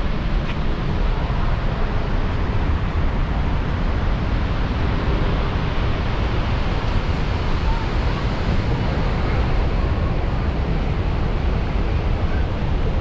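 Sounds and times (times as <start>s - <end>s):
waterfall roaring: 0.0s - 13.0s
wind rumbling on microphone: 0.0s - 13.0s.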